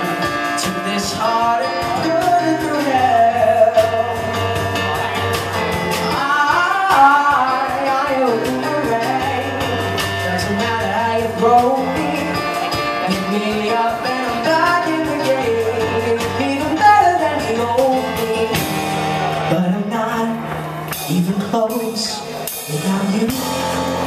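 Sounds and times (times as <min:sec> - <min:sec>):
bass: 0:00.0 - 0:24.0
drum kit beat: 0:00.0 - 0:24.0
keyboard: 0:00.0 - 0:24.0
man singing: 0:00.0 - 0:24.0.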